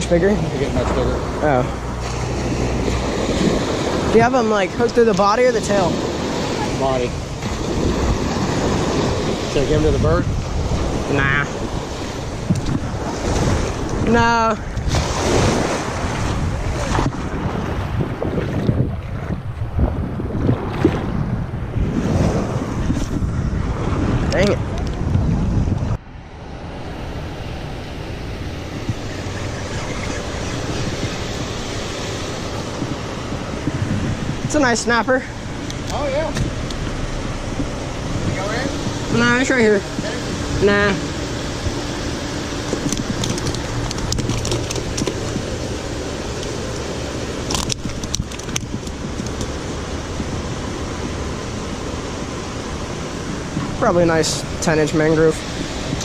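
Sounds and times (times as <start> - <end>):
outdoor background noise: 0.0 - 56.0
waves and water: 0.0 - 56.0
wind rumble on microphone: 0.0 - 56.0.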